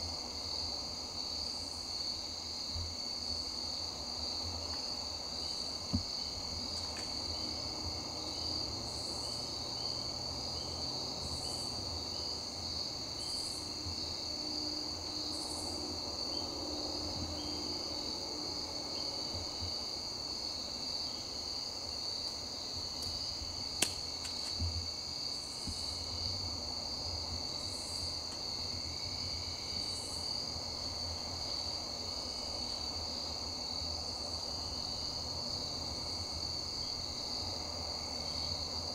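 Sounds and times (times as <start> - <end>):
crickets trilling: 0.0 - 38.9
higher pulsed insect call: 0.0 - 38.9.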